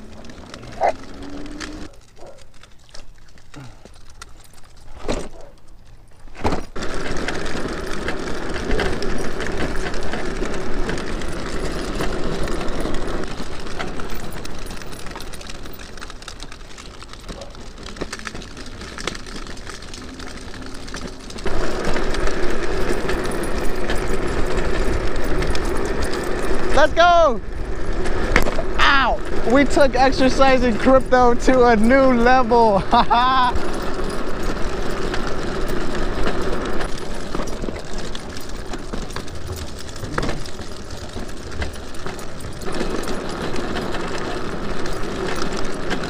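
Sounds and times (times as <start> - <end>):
plastic wheels rumbling on asphalt: 0.0 - 46.0.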